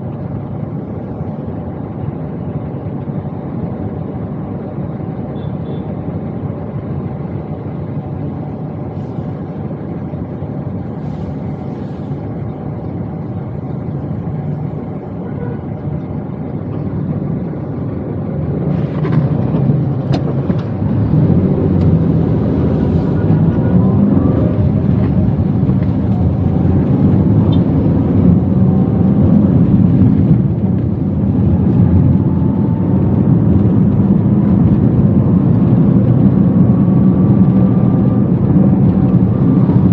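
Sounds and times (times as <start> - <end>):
car engine rumble: 0.0 - 39.9.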